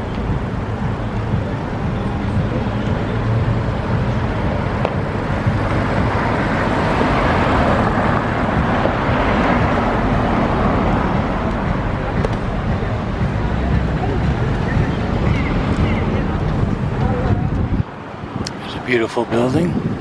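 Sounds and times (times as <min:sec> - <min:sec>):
passing vehicles: 0:00.0 - 0:20.0.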